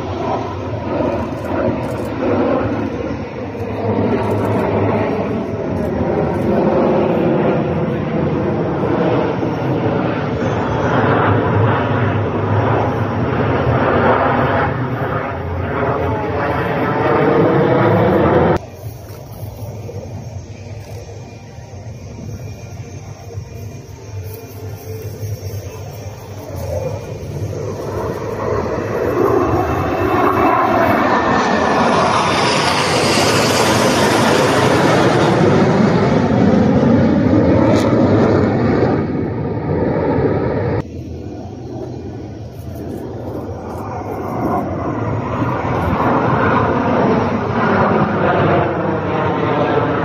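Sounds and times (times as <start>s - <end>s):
jet engines flying past: 0.0s - 50.0s.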